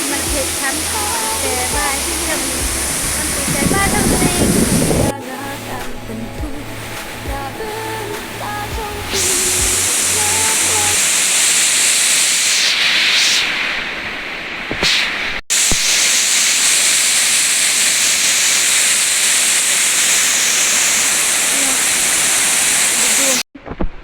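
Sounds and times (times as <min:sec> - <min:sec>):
waterfall rushing: 0:00.0 - 0:23.4.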